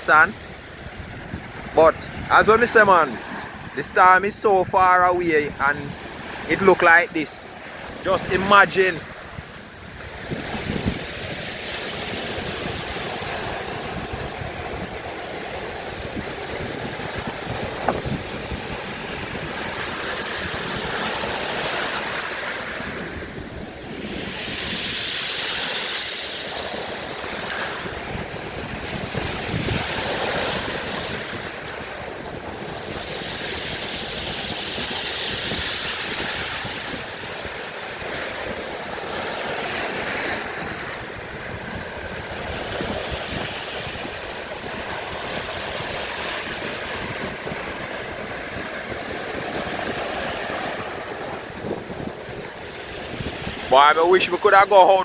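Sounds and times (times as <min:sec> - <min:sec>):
heavy surf breaking over rocks: 0:00.0 - 0:55.0
wind buffeting microphone: 0:00.0 - 0:55.0.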